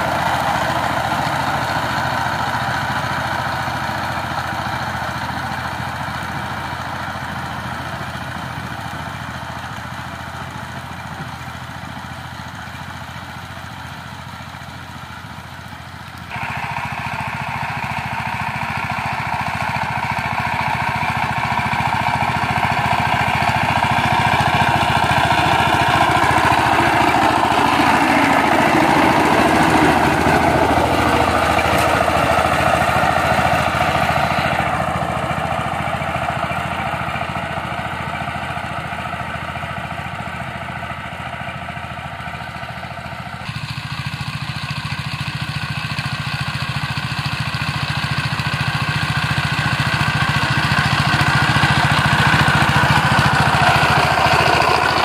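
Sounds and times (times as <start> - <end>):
diesel tiller engine running: 0.0 - 55.0.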